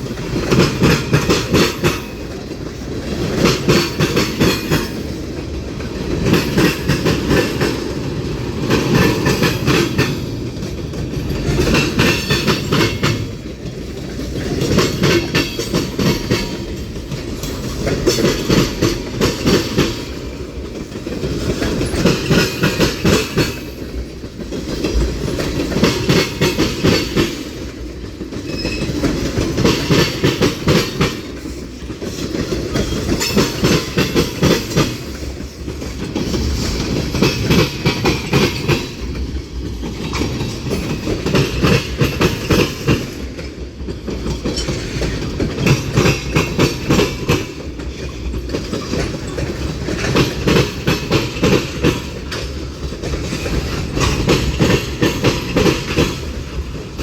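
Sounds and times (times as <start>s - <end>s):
train wheels clacking over rails: 0.0s - 57.0s.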